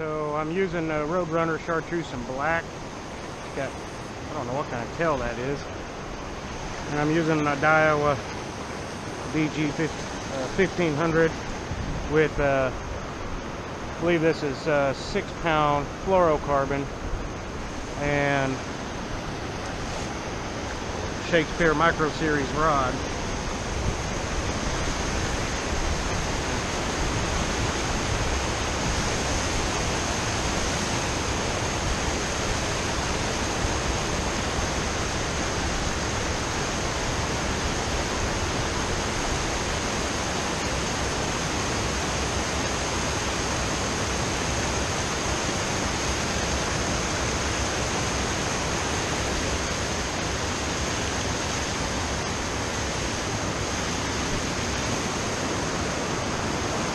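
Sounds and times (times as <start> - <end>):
river water rushing over rocks: 0.0 - 56.9.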